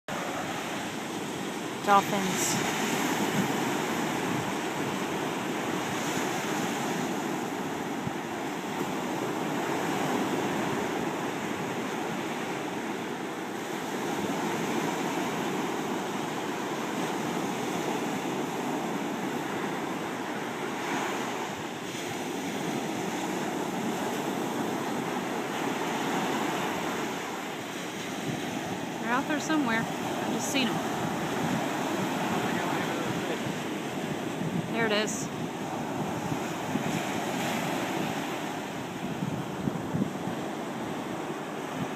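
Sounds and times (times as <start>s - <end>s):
ocean waves washing on shore: 0.1s - 41.9s.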